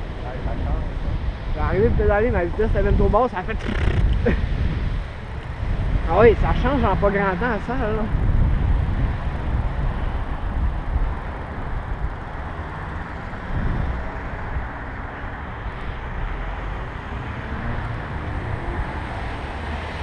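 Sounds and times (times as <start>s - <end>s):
bicycle rolling noise: 0.0s - 20.0s
wind rumbling on microphone: 0.0s - 20.0s.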